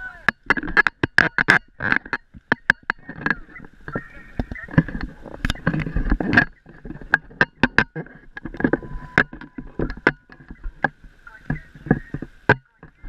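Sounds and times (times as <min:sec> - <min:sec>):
water splashing against camera: 0:00.0 - 0:13.0.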